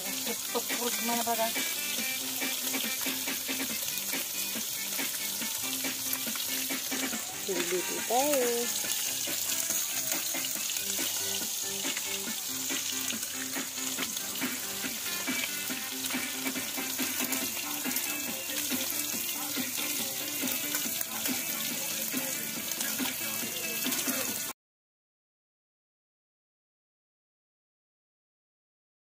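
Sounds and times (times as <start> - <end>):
food sizzling in a wok: 0.0 - 24.6.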